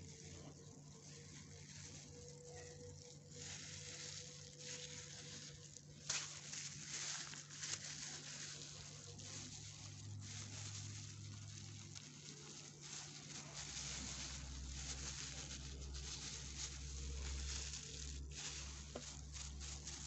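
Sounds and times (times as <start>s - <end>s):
plastic cup handling: 0.4s - 20.0s.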